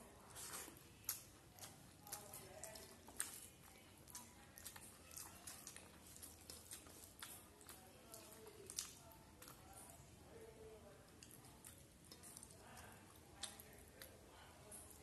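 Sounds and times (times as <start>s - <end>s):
wet chewing and lip smacks: 0.0s - 10.2s, 11.0s - 15.0s.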